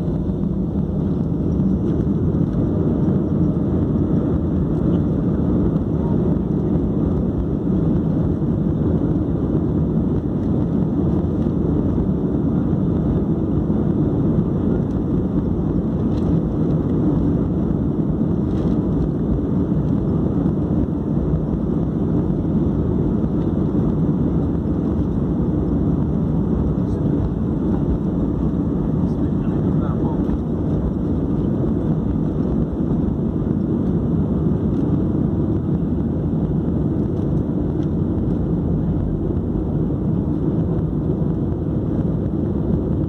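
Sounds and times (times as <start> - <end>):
jet airliner taxiing cabin rumble: 0.0 - 43.0.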